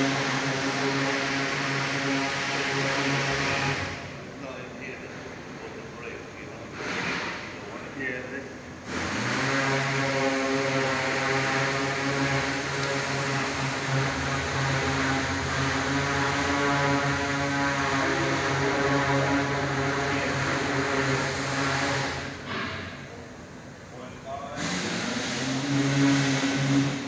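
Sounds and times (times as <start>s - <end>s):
generator engine drone: 0.0s - 22.8s, 23.6s - 27.0s.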